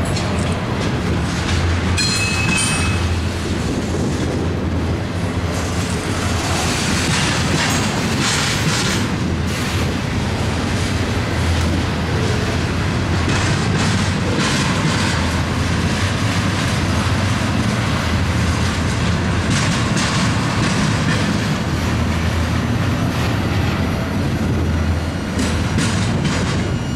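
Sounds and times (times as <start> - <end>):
freight train wheels rumbling and clacking: 0.0 - 26.9.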